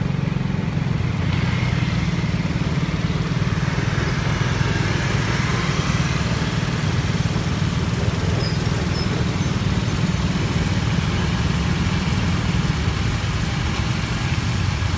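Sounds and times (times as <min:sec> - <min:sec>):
scooter engines idling: 0:01.9 - 0:14.9.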